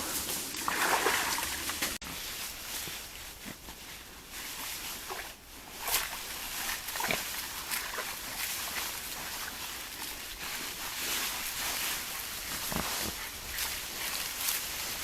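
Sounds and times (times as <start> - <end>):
boars rustling and rooting: 0.0 - 15.0.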